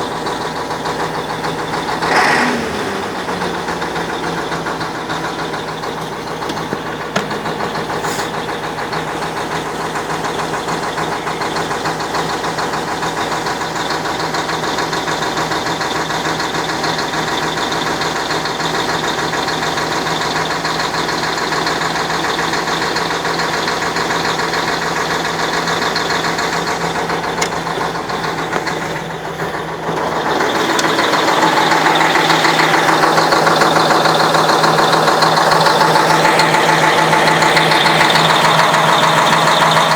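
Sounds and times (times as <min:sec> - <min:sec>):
diesel truck engine running: 0:00.0 - 0:39.9
engine knock: 0:00.0 - 0:39.9.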